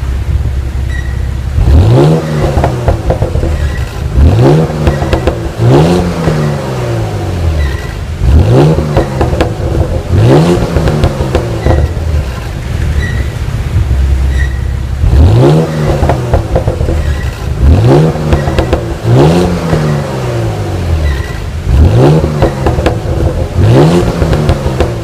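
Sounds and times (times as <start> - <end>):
car engine revving: 0.0 - 25.0
exhaust crackles: 0.0 - 25.0.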